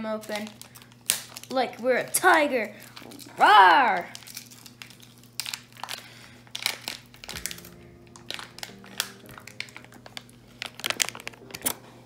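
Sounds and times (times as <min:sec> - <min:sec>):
plastic packet crinkling: 0:00.0 - 0:11.9.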